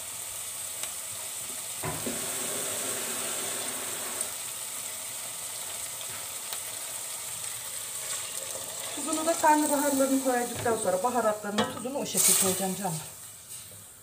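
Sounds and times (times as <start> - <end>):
food sizzling in a pot: 0.0 - 14.0.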